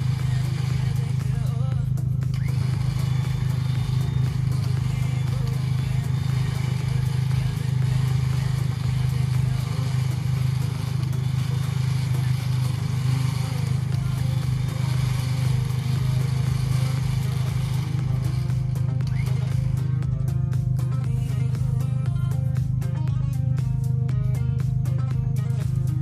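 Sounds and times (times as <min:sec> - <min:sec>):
engine running with low drone: 0:00.0 - 0:26.0.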